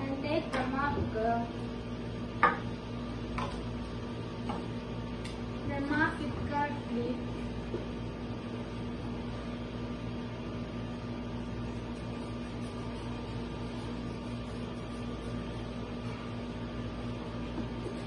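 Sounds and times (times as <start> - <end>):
air conditioner hum: 0.0 - 18.0.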